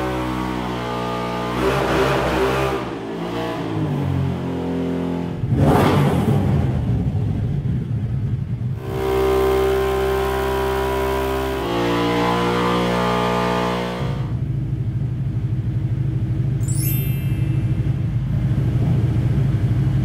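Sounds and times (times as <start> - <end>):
engine idling and revving: 0.0 - 16.6, 17.5 - 20.0.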